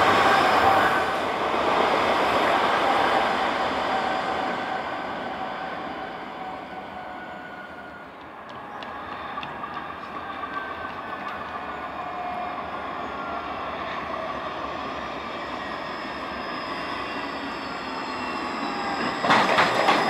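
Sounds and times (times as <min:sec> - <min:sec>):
tram running on rails: 0:00.0 - 0:20.0.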